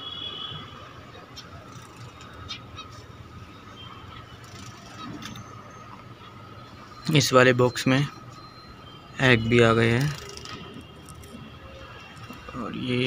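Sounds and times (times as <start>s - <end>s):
finches calling: 1.3s - 12.5s.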